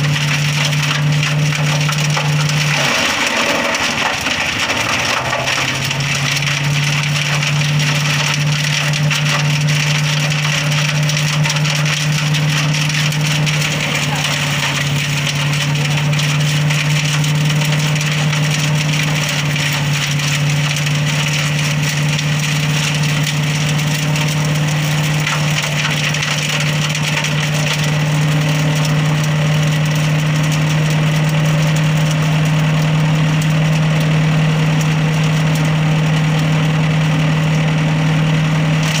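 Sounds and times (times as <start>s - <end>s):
wood chipper engine drone: 0.0s - 39.0s
wood crackling and crunching: 0.0s - 39.0s.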